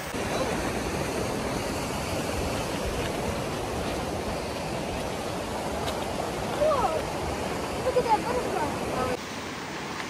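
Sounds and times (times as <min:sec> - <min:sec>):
fast-flowing river rushing: 0:00.0 - 0:10.0.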